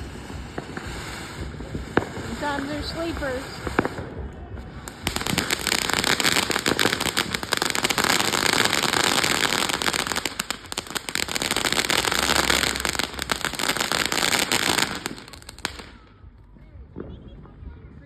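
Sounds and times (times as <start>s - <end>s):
fireworks crackling pops: 0.0s - 17.5s.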